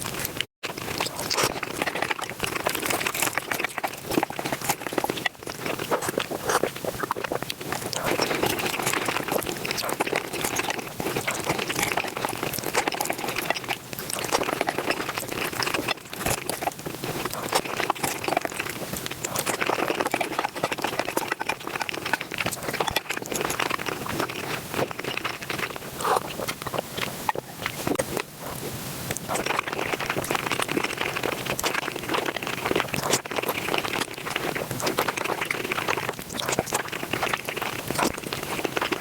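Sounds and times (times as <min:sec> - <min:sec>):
sped-up chewing and crunching: 0:00.0 - 0:39.0.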